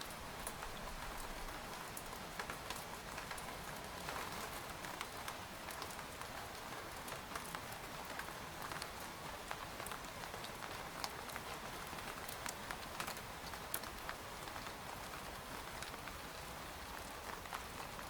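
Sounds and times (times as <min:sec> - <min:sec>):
rain hissing on a tent: 0:00.0 - 0:18.0
raindrops ticking on fabric: 0:00.0 - 0:18.0.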